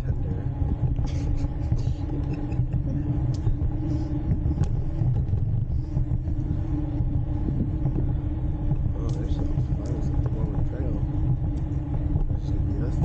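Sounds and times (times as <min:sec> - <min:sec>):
steady hum: 0:00.0 - 0:13.0
wind rumble on microphone: 0:00.0 - 0:13.0.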